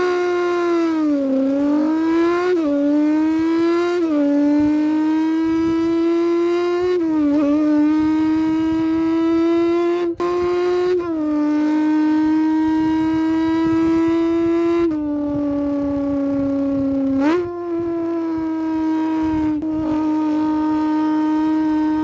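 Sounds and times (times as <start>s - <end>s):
person imitating car engine: 0.0s - 22.0s.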